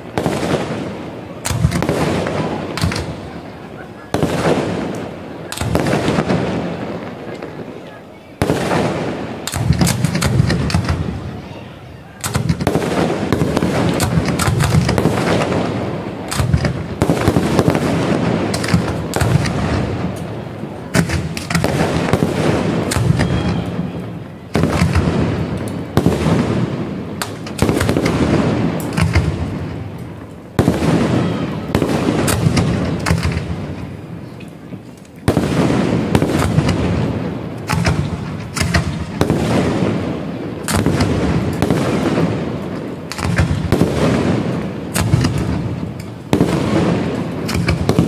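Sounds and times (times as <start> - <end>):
fireworks popping: 0.0 - 48.0
loud firework bangs: 0.0 - 48.0.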